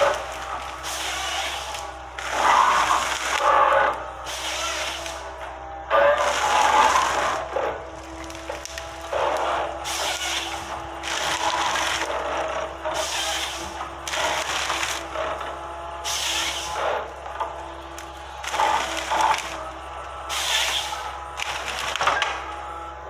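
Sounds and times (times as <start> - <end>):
machine engine and hydraulics hum: 0.0 - 23.0
rushing noise of log processing: 0.0 - 23.0.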